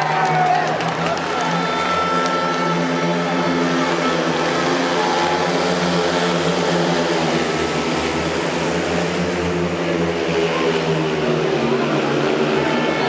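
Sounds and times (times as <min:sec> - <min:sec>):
motorcycle engines racing: 0:00.0 - 0:13.0.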